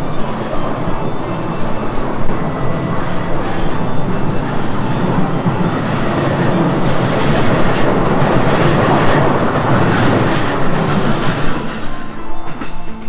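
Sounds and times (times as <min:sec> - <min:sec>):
train wheels rumbling on rails: 0:00.0 - 0:13.0
wheels clacking over rail joints: 0:00.0 - 0:13.0.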